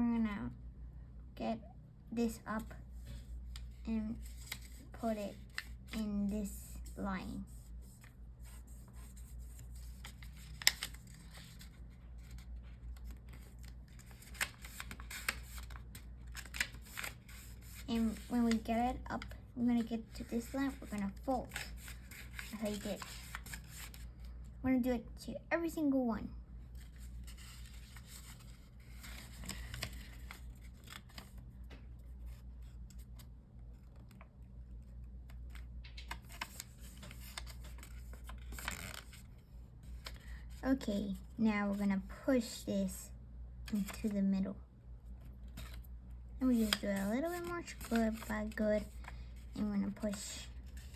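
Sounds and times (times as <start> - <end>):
paper crinkling and folding: 2.6 - 24.4, 26.6 - 41.3, 45.3 - 50.9.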